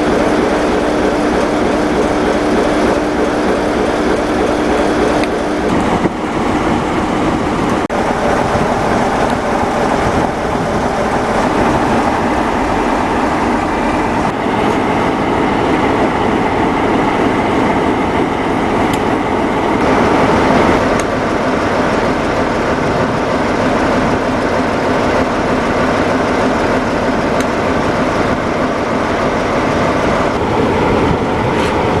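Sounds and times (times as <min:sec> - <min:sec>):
diesel locomotive engine idling: 0:00.0 - 0:32.0.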